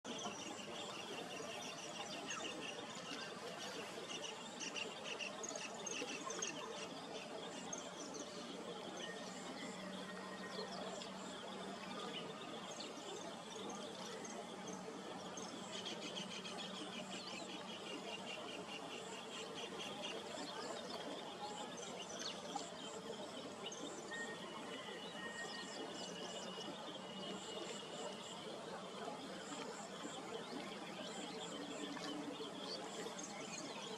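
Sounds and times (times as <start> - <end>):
small birds and insects chirping: 0.1 - 33.9.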